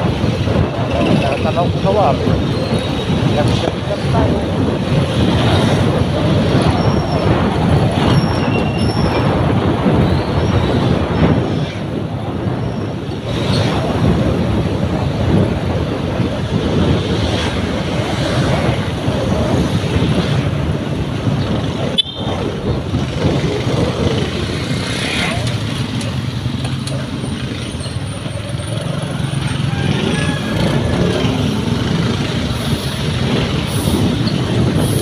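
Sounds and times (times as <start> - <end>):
road traffic noise: 0.0 - 35.0
wind rushing: 0.0 - 35.0.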